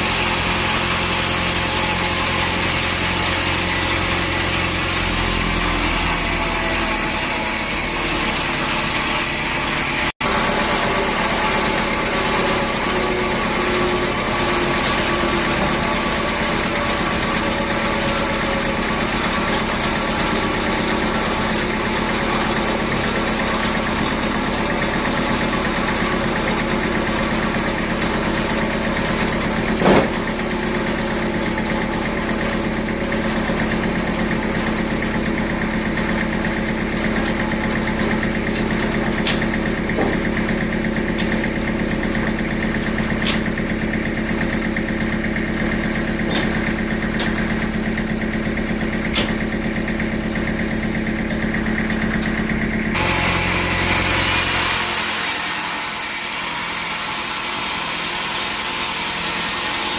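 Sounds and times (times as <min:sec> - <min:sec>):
saw cutting through wood: 0:00.0 - 0:59.9
sawmill machinery humming: 0:00.0 - 0:59.9.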